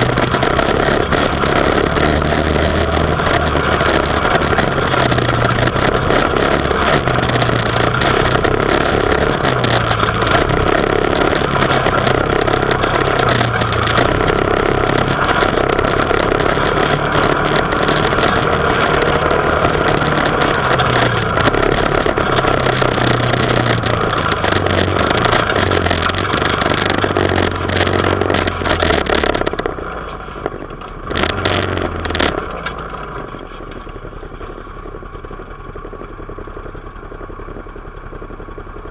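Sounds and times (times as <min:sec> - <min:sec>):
rushing noise: 0:00.0 - 0:34.6
off-road engine revving: 0:00.0 - 0:38.9.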